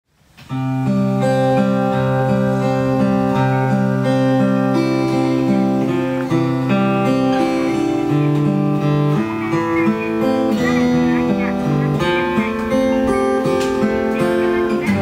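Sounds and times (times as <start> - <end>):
fingerpicked acoustic guitar: 0.2 - 15.0.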